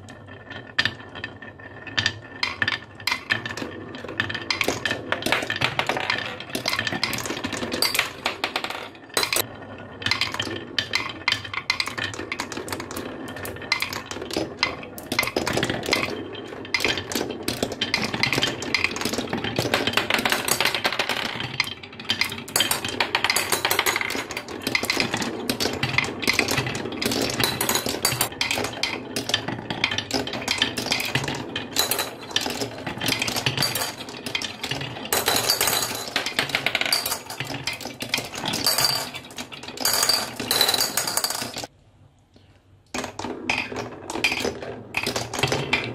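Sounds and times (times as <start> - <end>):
marbles clicking: 0.0 - 41.7, 42.8 - 45.9
marbles rolling on wooden track: 0.0 - 41.7, 42.8 - 45.9.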